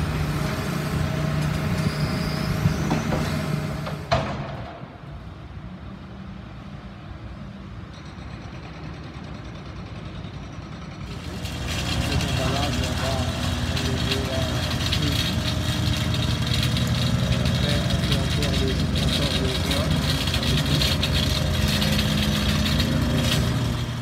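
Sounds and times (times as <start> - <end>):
excavator diesel engine running: 0.0 - 4.6, 8.0 - 24.0
distant traffic and machinery: 0.0 - 24.0.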